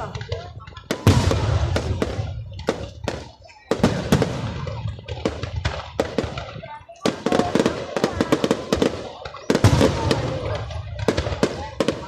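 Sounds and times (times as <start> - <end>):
fireworks bursting with bangs: 0.0 - 12.0
rapid firework cracks: 0.0 - 12.0.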